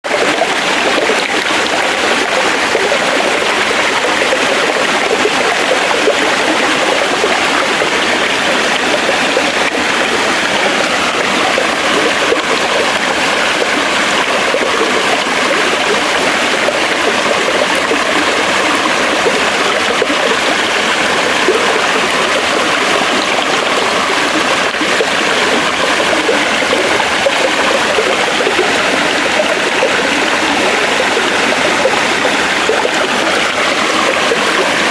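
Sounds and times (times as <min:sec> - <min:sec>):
stream running over rocks: 0:00.1 - 0:34.9.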